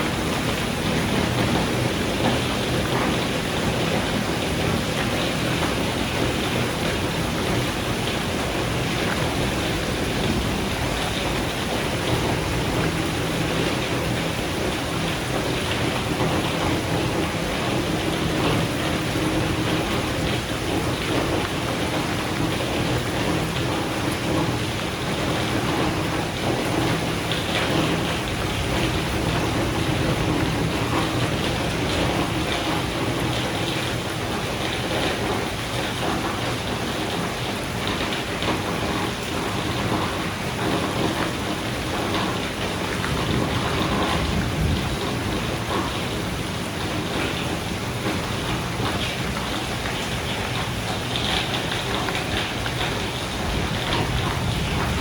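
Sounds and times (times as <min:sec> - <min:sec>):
low rumble of thunder: 0:00.0 - 0:37.2, 0:38.4 - 0:49.6, 0:52.6 - 0:55.0
steady rain falling: 0:00.0 - 0:55.0.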